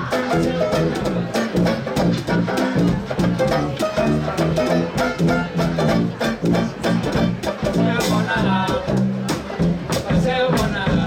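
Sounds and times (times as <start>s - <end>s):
instrumental swing music: 0.0s - 11.0s.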